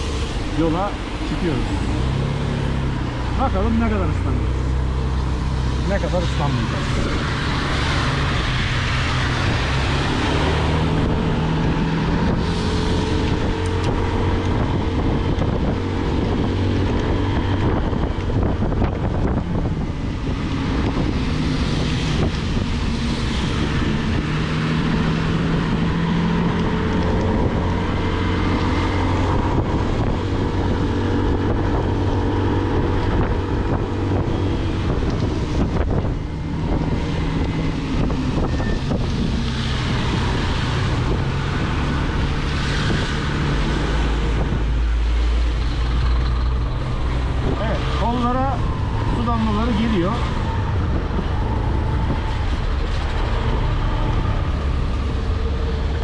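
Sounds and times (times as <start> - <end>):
tyres hissing on wet road: 0.0 - 17.2, 20.2 - 35.6, 36.2 - 56.0
wind noise on microphone: 4.3 - 56.0.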